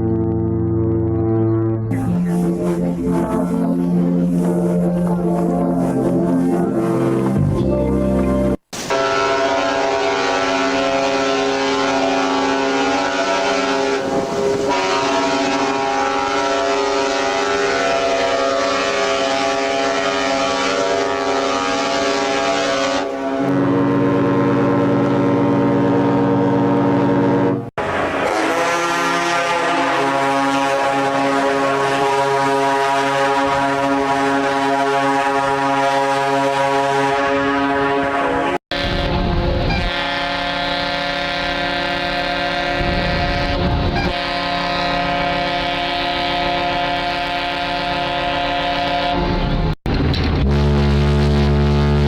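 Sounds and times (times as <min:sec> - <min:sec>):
ship horns blasting: 0:00.0 - 0:49.8, 0:50.4 - 0:52.0
deep ship horn: 0:00.0 - 0:52.0.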